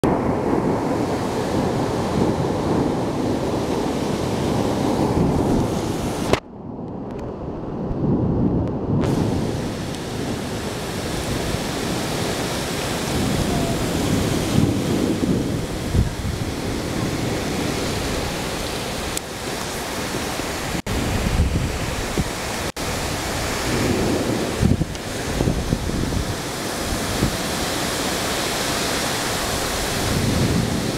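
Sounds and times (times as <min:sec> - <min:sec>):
heavy rain pouring: 0:00.0 - 0:30.9
wind gusting through trees: 0:00.0 - 0:30.9.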